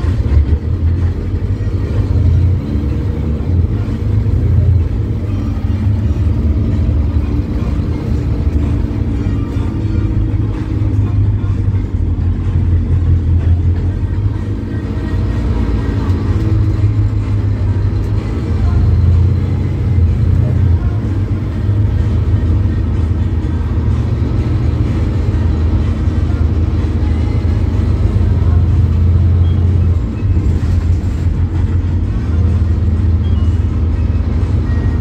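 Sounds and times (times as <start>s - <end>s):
bus diesel engine drone: 0.0s - 35.0s.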